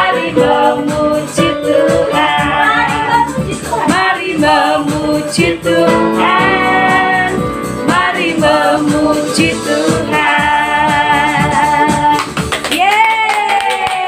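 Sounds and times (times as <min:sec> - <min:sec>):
children's worship song with band: 0:00.0 - 0:12.6.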